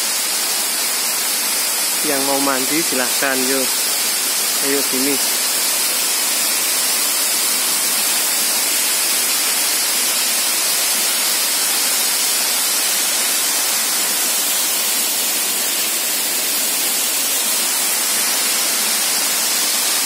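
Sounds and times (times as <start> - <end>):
waterfall rushing into pool: 0.0 - 20.0.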